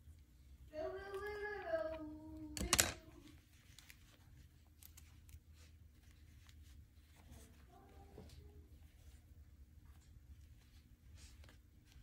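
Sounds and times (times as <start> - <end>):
rustling and clicks of handling: 1.1 - 12.0.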